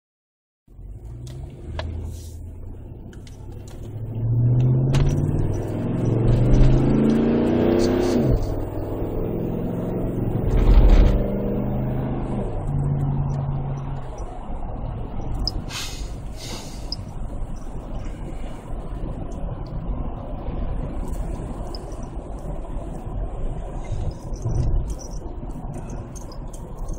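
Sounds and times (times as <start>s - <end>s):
car engine revving and idling: 0.7s - 26.9s.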